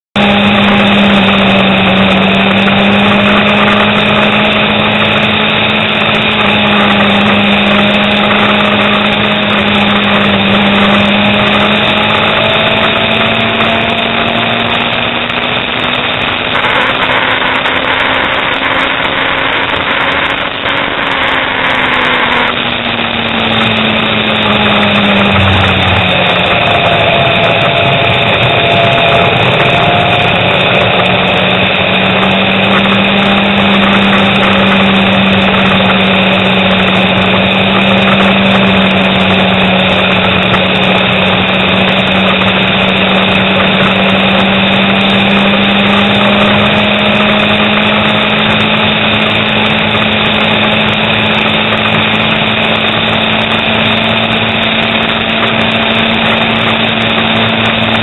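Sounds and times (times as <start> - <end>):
motorcycle engine droning: 0.0 - 58.0
wind and road noise: 0.0 - 58.0.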